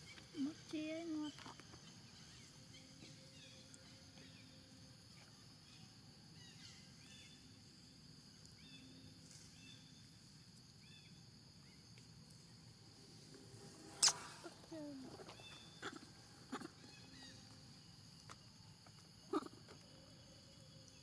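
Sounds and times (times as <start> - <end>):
faint chirps: 0.0 - 21.0
high insect drone: 0.0 - 21.0.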